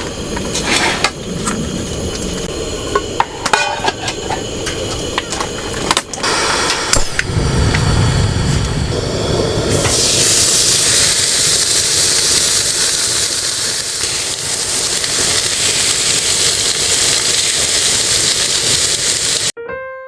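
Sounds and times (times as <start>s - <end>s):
loud steady hiss: 0.0s - 19.6s.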